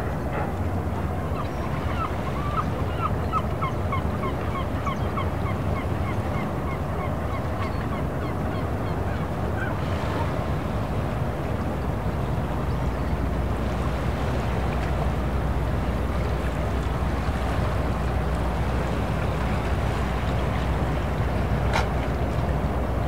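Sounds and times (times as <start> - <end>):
low harbour rumble: 0.0 - 23.0.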